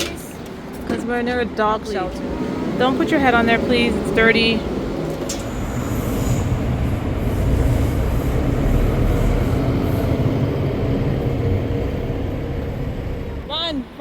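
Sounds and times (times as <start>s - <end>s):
large vehicle rumble: 0.0s - 14.0s.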